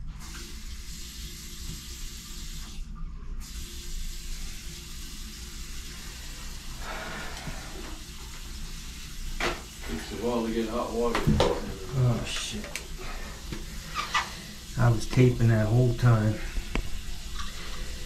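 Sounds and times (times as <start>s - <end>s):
shower water hissing: 0.0s - 18.0s.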